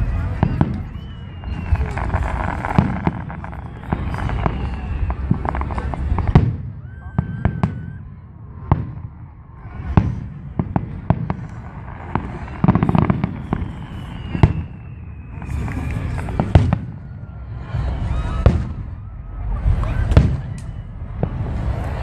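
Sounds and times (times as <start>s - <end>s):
firework whistle falling in pitch: 0.0s - 8.2s, 12.2s - 21.9s
firework crackling: 0.0s - 22.0s.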